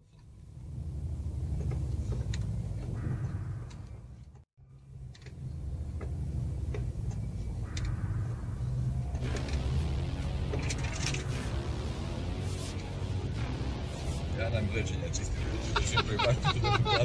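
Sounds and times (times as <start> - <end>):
engine and drivetrain rumble: 0.0 - 17.0.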